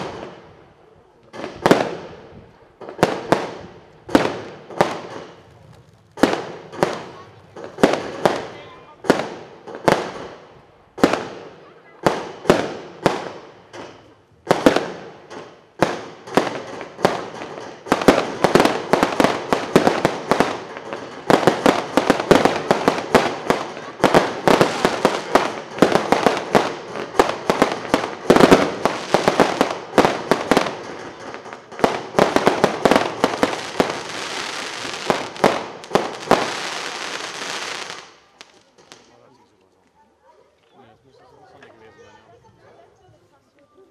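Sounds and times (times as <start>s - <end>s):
fireworks bangs: 0.0s - 39.3s
fireworks crackle: 0.0s - 40.0s.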